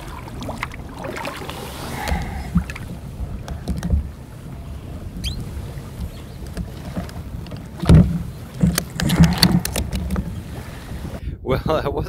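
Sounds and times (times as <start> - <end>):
paddle blades splashing: 0.0 - 11.2
wind rumble on microphone: 0.0 - 12.0.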